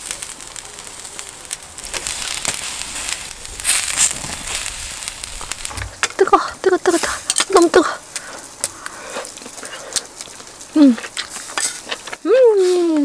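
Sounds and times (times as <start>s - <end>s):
sharp pops and clicks: 0.0s - 12.3s
meat sizzling on charcoal grill: 0.0s - 13.0s.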